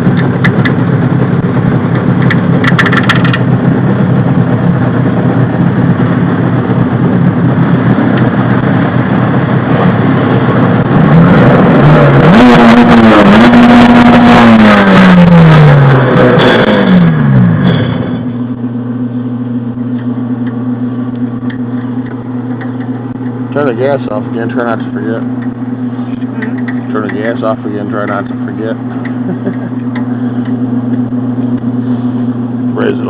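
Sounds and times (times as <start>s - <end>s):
jet ski engine revving: 0.0s - 33.0s.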